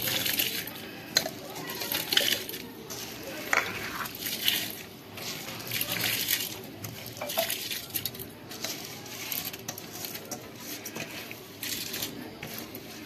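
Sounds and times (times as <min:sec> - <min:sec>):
metal utensils clinking and scraping: 0:00.0 - 0:13.0.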